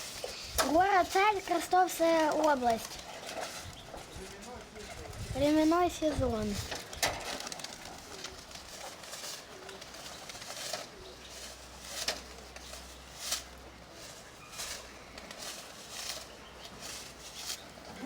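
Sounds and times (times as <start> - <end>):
faint pigeon cooing: 0.0 - 18.0
pigeons flapping wings: 0.0 - 18.0.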